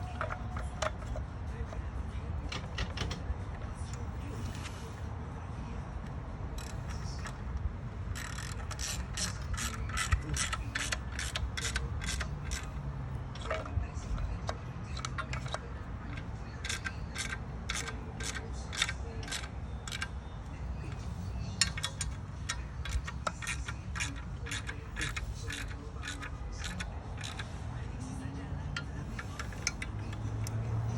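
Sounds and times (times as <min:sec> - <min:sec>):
ratchet wrench clicking: 0:00.0 - 0:01.3, 0:06.0 - 0:30.9.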